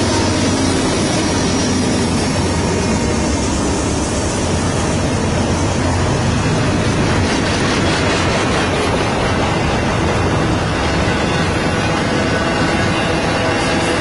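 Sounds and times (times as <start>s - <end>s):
freight train rumbling on track: 0.0s - 14.0s.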